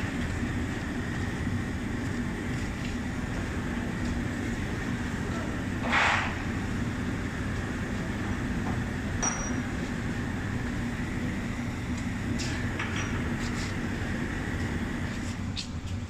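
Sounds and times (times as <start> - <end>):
machinery low drone: 0.0 - 16.0.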